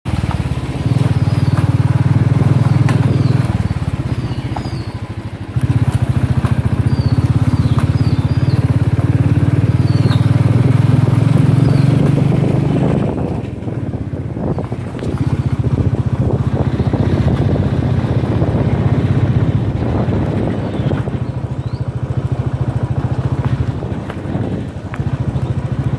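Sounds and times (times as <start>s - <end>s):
motorcycle engine running: 0.1s - 25.9s.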